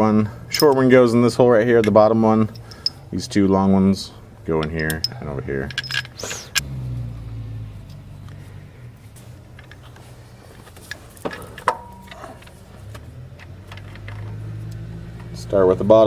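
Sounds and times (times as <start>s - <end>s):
metal parts clinking: 0.0s - 6.6s, 7.8s - 14.4s
steady low hum: 0.0s - 13.2s.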